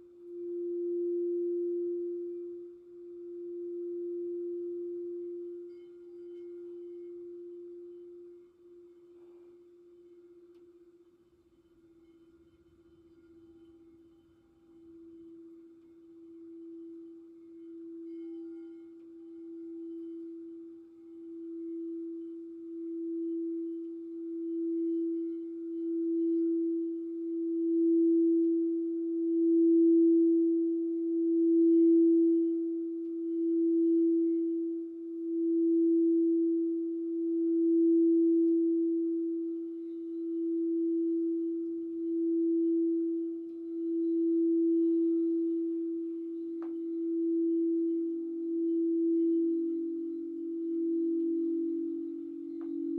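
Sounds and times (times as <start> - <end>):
crystal singing bowl tone: 0.0 - 52.9.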